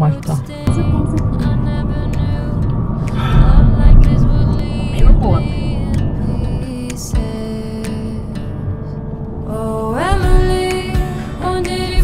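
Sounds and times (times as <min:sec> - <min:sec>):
car cabin rumble: 0:00.0 - 0:11.2
background music with held notes: 0:00.0 - 0:12.0.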